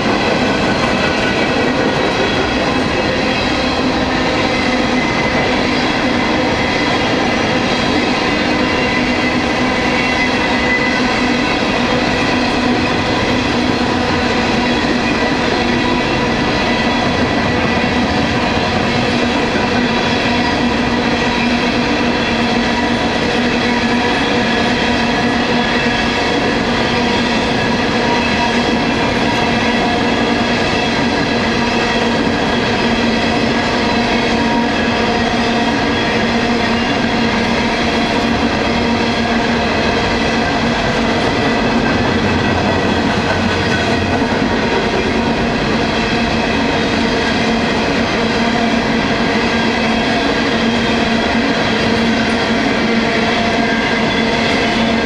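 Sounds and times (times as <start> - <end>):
freight train rumbling clatter: 0.0 - 55.0.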